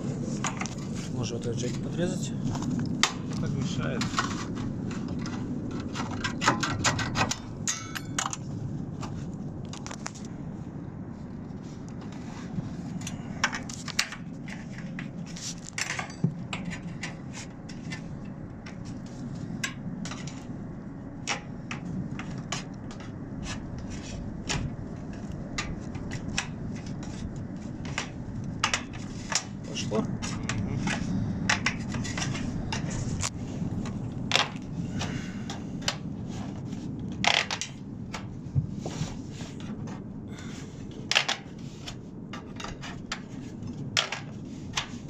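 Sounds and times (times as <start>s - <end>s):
steady low rumble: 0.0s - 45.0s.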